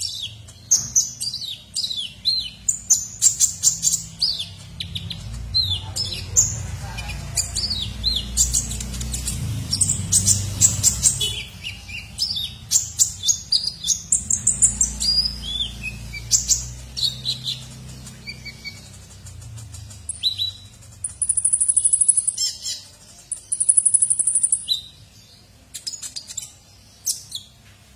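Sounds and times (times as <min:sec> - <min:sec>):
bird singing high chirps and trills: 0:00.0 - 0:27.7.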